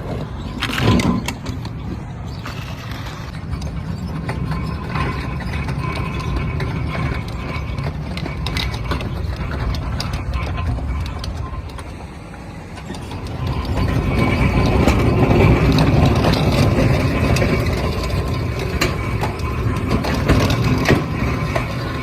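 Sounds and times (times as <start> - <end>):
truck body rattling and clicking: 0.0 - 22.0
truck engine rumble: 0.0 - 22.0.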